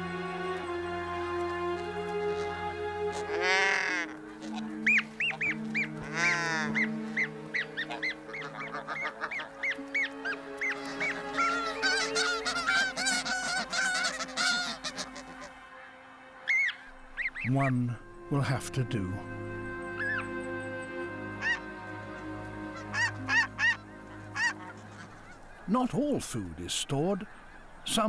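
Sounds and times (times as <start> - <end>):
background music with held notes: 0.0 - 28.0
geese honking: 0.0 - 28.0.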